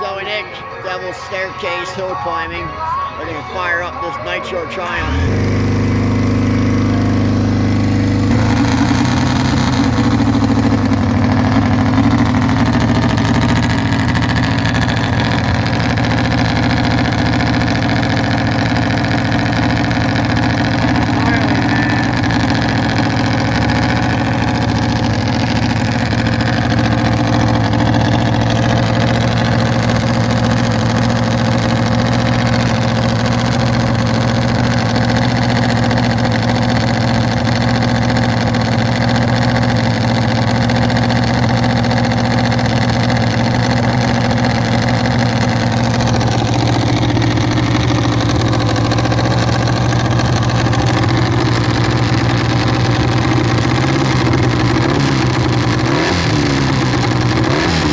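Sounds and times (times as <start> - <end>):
motorcycle engine idling: 4.9 - 57.9.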